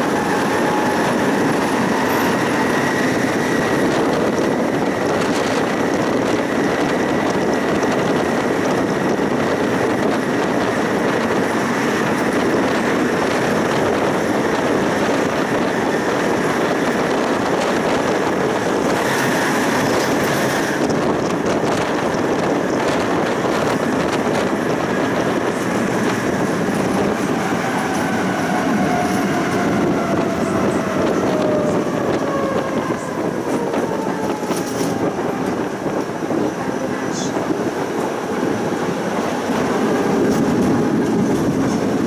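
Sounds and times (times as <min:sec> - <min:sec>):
tram wheels rumbling on rails: 0:00.0 - 0:42.0.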